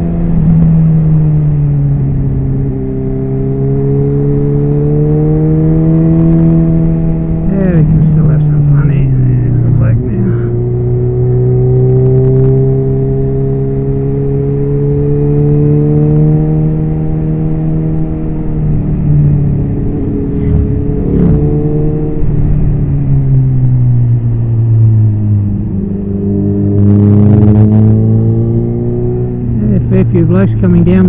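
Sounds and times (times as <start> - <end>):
low wind rumble: 0.0 - 31.0.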